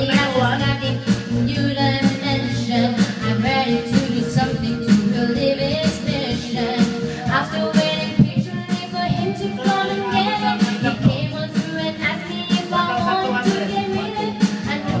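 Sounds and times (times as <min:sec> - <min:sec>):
backing track with steady beat: 0:00.0 - 0:15.0
woman singing karaoke: 0:00.0 - 0:15.0.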